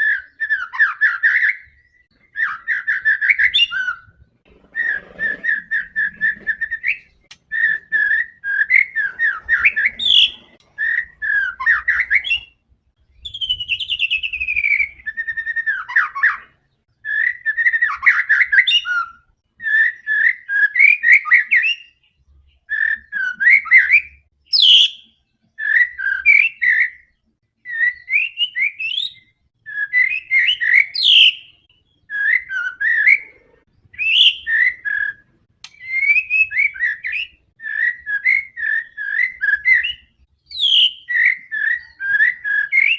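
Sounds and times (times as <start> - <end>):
songbird whistling and chattering: 0.0 - 42.9.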